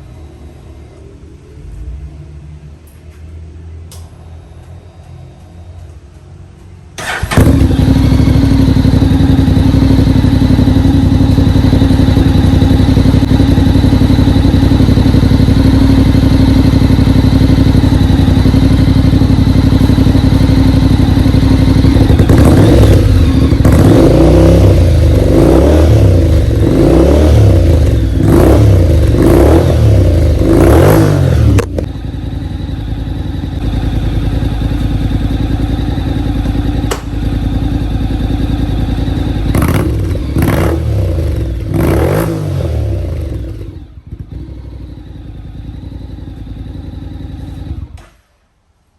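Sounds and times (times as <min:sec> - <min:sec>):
motorcycle engine revving: 0:07.0 - 0:48.1.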